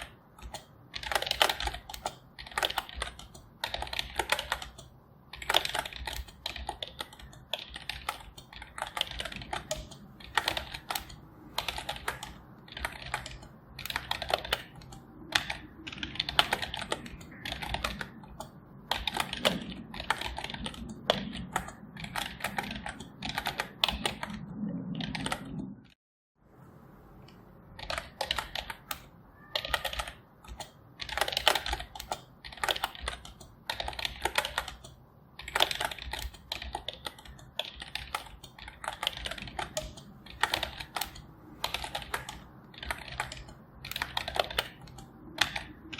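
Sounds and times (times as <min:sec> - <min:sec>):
keyboard keys clicking: 0:00.0 - 0:25.8, 0:27.3 - 0:45.9.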